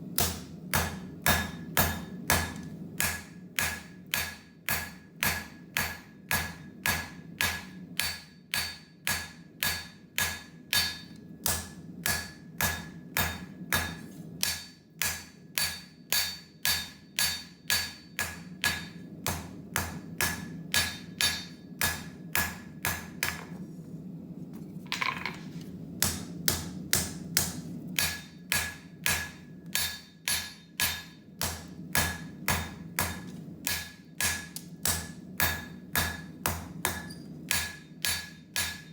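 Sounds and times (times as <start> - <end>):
steady low hum: 0.0 - 38.9
hammer striking steel on anvil: 0.2 - 23.4, 26.0 - 38.9.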